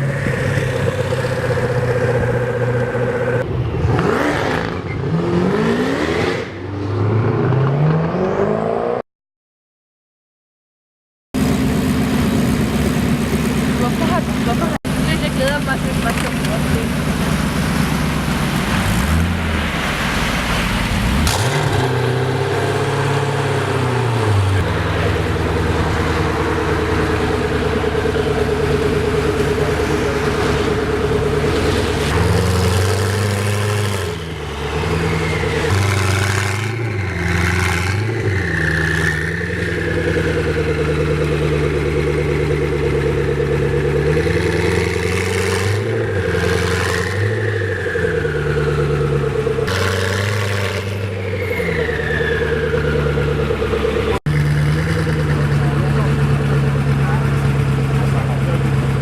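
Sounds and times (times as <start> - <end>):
car engine revving: 0.0 - 9.0, 11.4 - 59.0.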